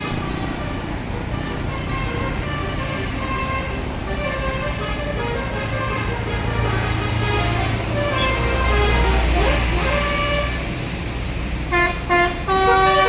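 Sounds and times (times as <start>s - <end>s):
musical bus horn melody: 0.0s - 10.8s, 11.7s - 13.0s
engine and road rumble: 0.0s - 13.0s.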